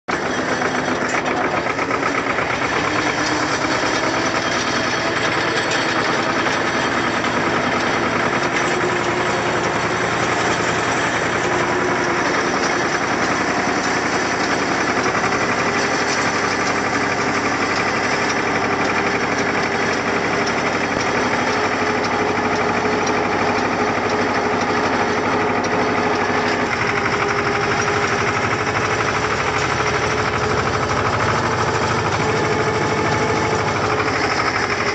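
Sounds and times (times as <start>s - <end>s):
walking tractor engine running: 0.1s - 34.9s.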